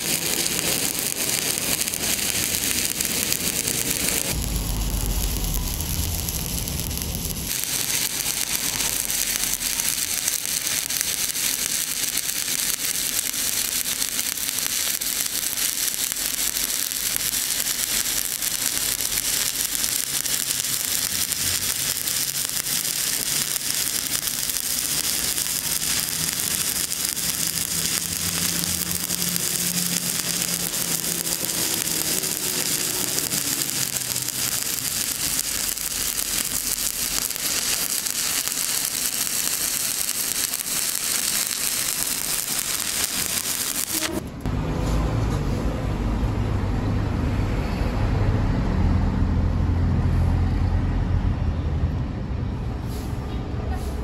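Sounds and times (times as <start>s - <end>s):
welding arc crackling and sizzling: 0.0s - 44.5s.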